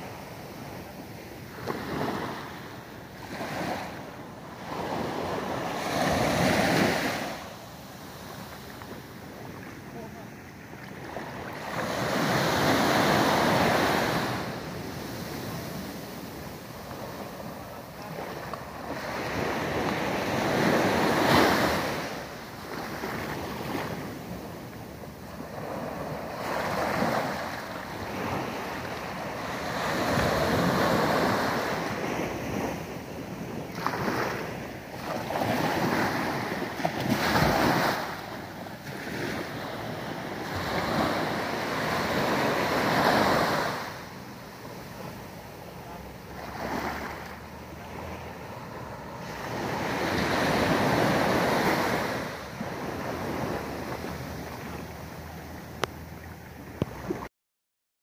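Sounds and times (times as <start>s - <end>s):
small waves breaking on beach: 0.0s - 57.3s.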